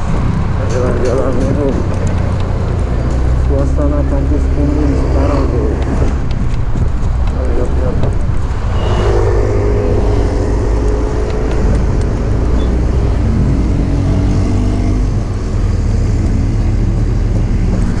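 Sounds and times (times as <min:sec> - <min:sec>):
motorcycle engine rumble: 0:00.0 - 0:18.0
wind noise: 0:00.0 - 0:18.0.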